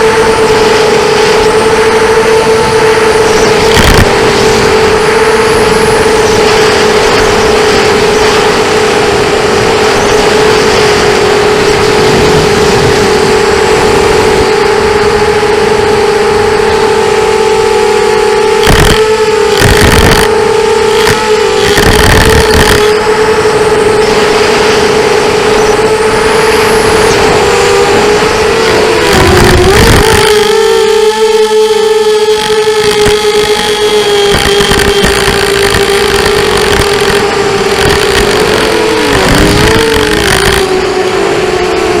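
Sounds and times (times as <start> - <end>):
engine high whine: 0.0 - 42.0
rough engine surges: 0.0 - 42.0.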